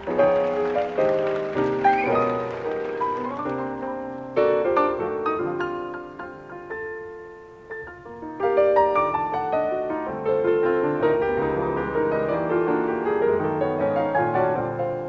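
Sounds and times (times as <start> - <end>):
jazz piano duo: 0.0 - 15.0.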